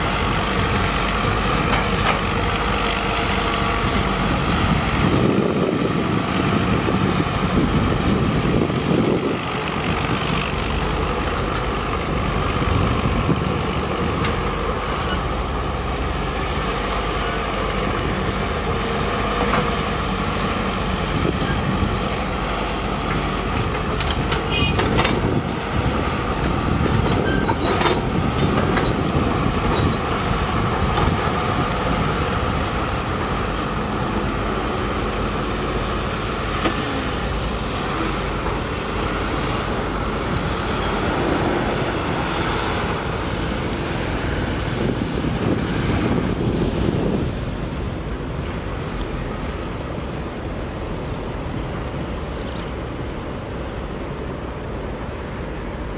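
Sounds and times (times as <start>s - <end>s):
diesel machinery drone: 0.0s - 55.9s.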